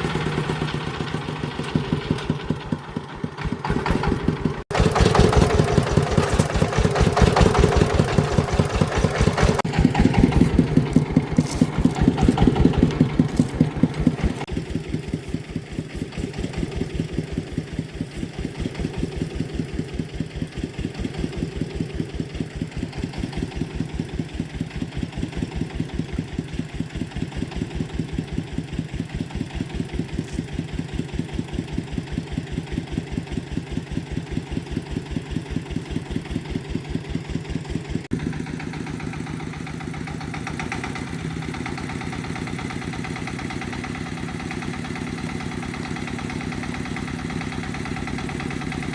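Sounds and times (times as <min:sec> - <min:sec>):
engine idling: 0:00.0 - 0:48.9.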